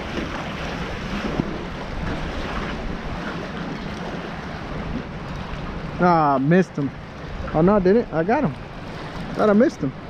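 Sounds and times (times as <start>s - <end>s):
choppy water washing: 0.0s - 10.0s.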